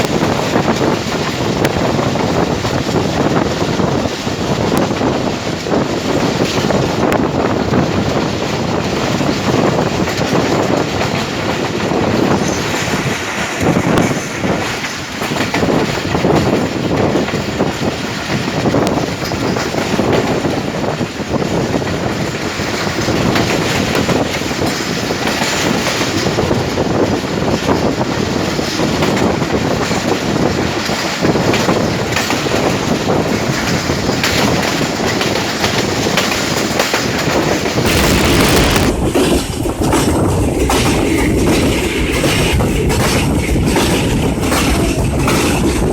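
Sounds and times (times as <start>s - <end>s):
train wheels clattering over rails: 0.0s - 45.9s.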